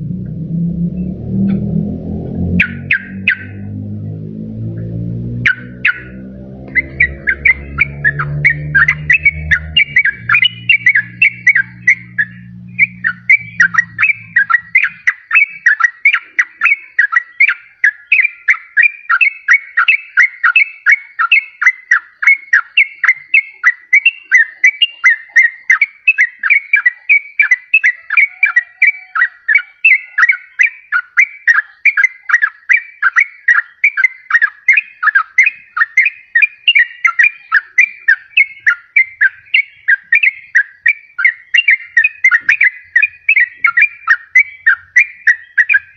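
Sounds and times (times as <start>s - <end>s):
bird singing bubbly whistles: 2.4s - 3.8s, 5.4s - 45.9s.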